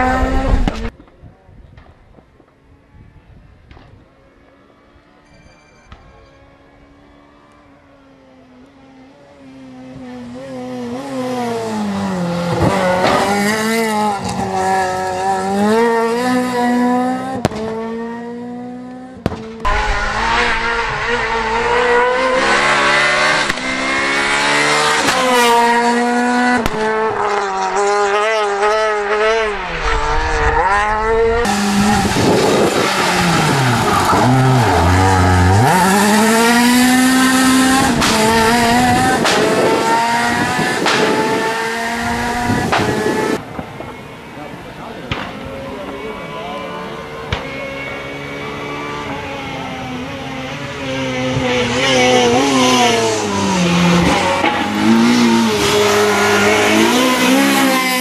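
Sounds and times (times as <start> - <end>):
rally car engine revving: 0.0 - 0.9, 8.7 - 58.0.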